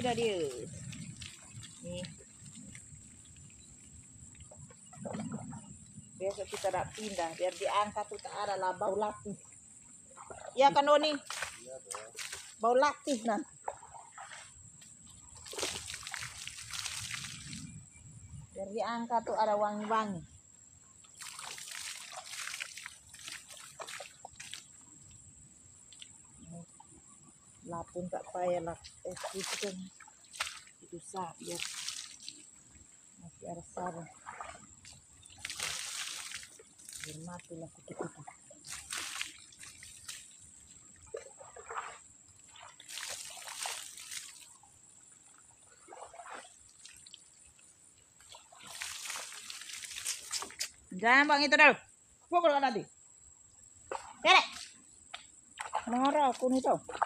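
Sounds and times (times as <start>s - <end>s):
water drips: 0.0s - 17.8s, 21.0s - 26.9s, 27.5s - 50.8s, 53.9s - 57.0s
water splashing and trickling: 0.0s - 51.3s, 53.7s - 57.0s.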